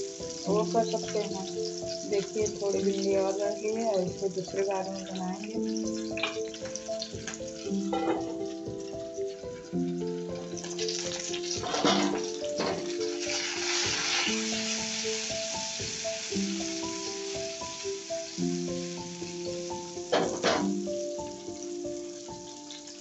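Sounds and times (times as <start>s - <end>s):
background music: 0.0s - 23.0s
okra sizzling in hot oil: 0.0s - 23.0s.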